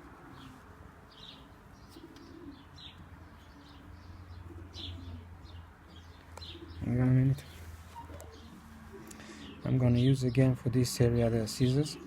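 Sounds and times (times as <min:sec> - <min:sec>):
pigeons cooing: 0:00.0 - 0:10.4, 0:11.2 - 0:12.0.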